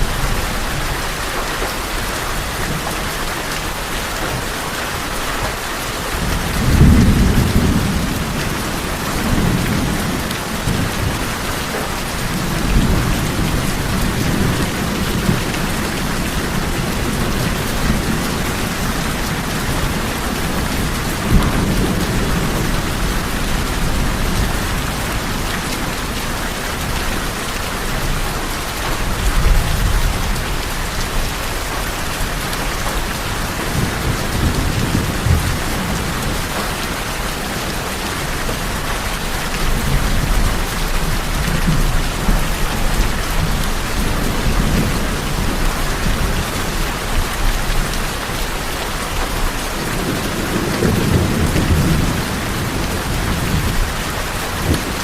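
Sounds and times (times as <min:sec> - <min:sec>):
heavy rain on tin roofs: 0:00.0 - 0:55.0
thunder rumbles: 0:06.1 - 0:55.0.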